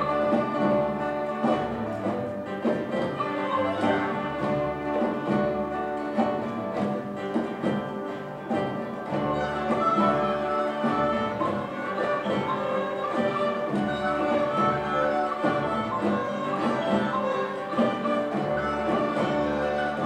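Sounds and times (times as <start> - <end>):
bowed violins and cellos: 0.0 - 20.0
plucked guitars: 0.0 - 20.0.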